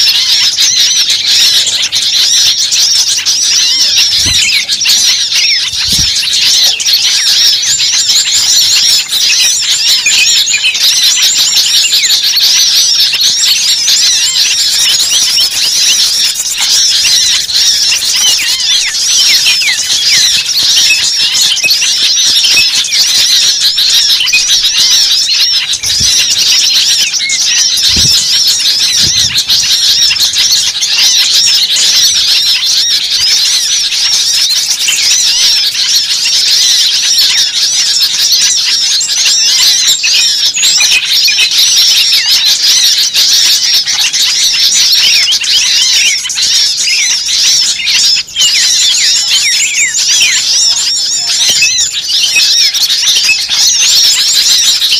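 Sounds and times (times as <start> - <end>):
songbirds chirping chorus: 0.0 - 54.9.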